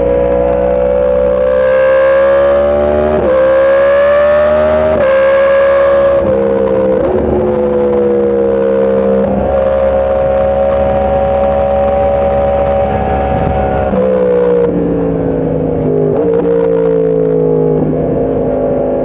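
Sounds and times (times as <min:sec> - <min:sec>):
motorcycle engine at speed: 0:00.0 - 0:19.0.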